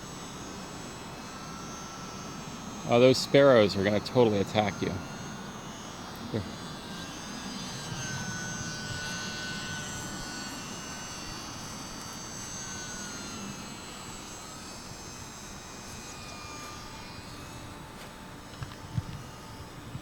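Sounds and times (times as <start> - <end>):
model plane motor whining: 0.0 - 20.0.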